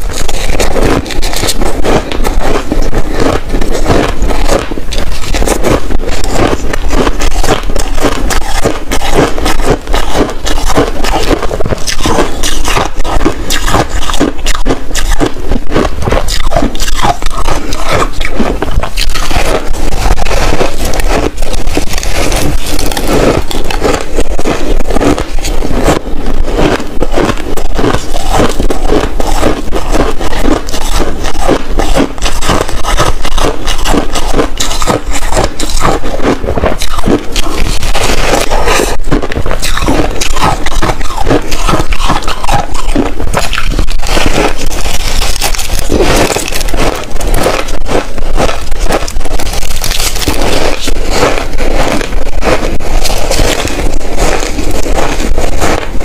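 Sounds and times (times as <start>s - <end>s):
shaved ice being chewed: 0.0s - 56.0s.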